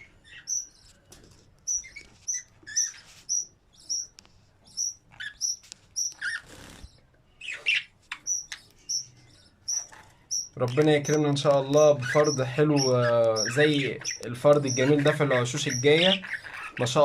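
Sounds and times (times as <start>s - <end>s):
budgerigars chirping: 0.0s - 0.9s, 1.6s - 17.0s.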